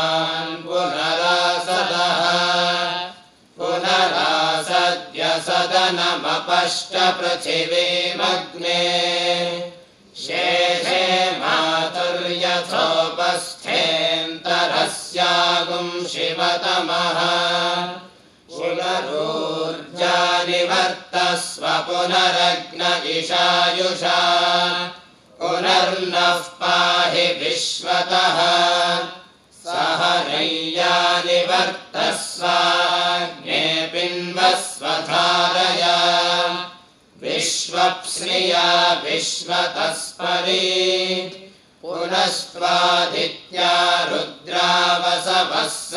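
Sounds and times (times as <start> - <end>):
young men chanting in unison: 0.0 - 45.9.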